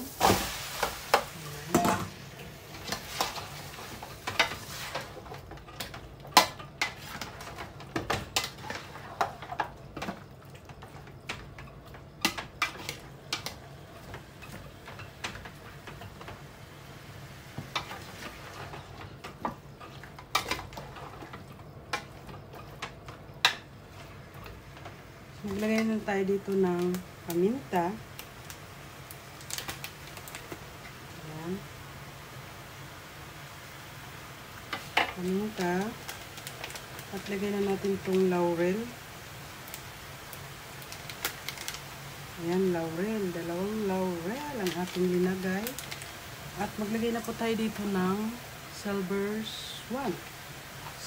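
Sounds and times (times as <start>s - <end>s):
chicken sizzling in a pot: 0.0s - 51.0s.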